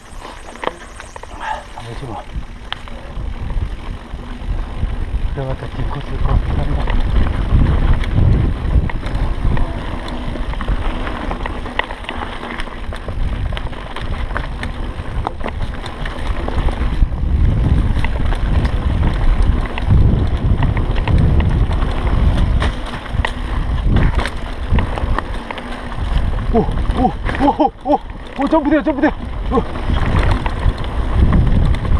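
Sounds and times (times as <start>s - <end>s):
bike clicks and rattles: 0.0s - 31.9s
wind rumbling on microphone: 0.0s - 31.9s.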